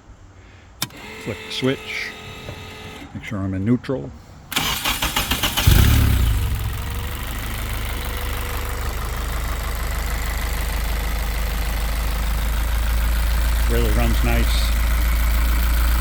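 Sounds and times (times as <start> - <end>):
car engine starting and idling: 0.7 - 16.0.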